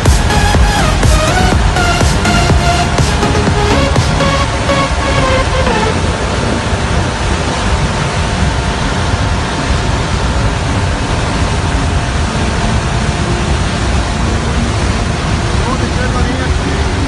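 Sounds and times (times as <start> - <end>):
fluttering low rumble: 0.0 - 17.0
loud rushing noise: 0.0 - 17.0.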